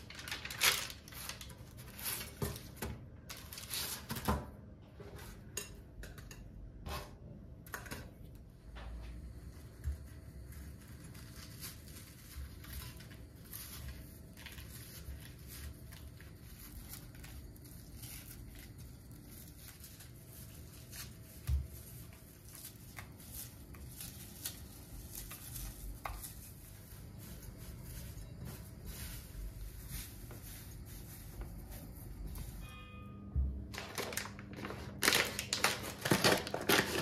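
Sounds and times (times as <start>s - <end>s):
pastry flakes crackling: 0.0s - 4.1s, 9.3s - 32.7s, 33.8s - 37.0s.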